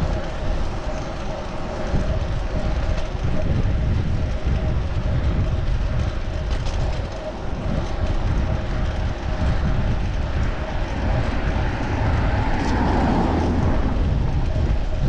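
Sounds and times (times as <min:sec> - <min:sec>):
road and traffic noise: 0:00.0 - 0:15.0
wind buffeting microphone: 0:00.0 - 0:15.0.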